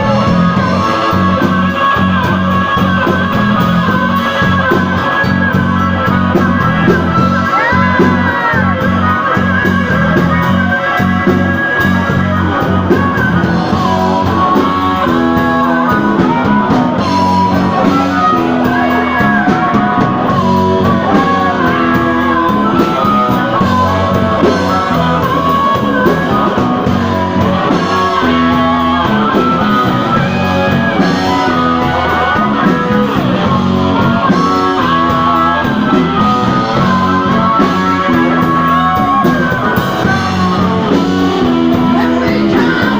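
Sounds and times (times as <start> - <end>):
blues-rock band playing: 0.0 - 42.9
guitar bending melody: 0.0 - 42.9
steady bass: 0.0 - 42.9.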